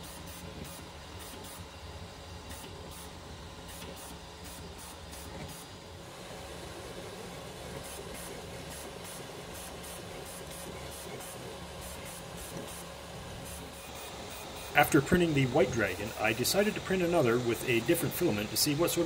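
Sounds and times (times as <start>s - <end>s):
fan hiss and hum: 0.0s - 19.0s.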